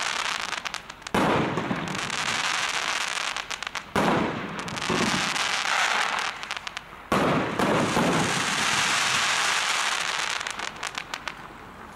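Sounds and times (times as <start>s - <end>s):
firework stars crackling: 0.0s - 11.9s.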